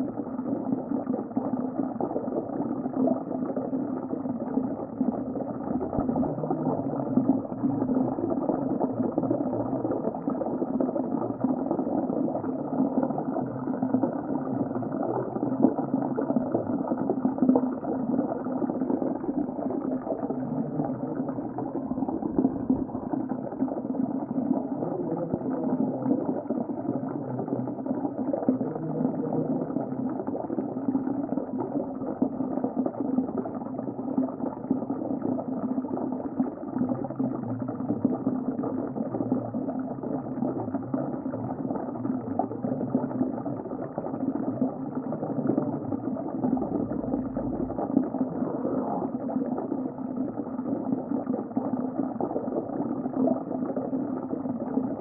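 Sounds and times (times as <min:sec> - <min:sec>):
muffled underwater bubbling rumble: 0:00.0 - 0:55.0.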